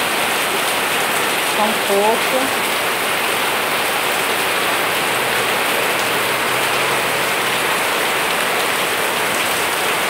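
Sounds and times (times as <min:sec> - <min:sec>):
rain falling on plants: 0:00.0 - 0:10.0.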